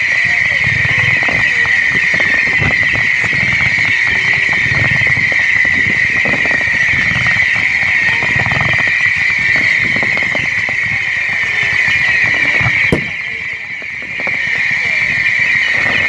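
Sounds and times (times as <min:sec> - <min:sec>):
fireworks crackling fizz: 0:00.0 - 0:16.0
low firework booms: 0:00.6 - 0:16.0.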